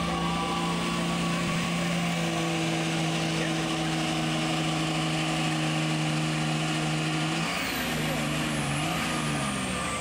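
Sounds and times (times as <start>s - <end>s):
diesel engine at high revs: 0.0s - 10.0s.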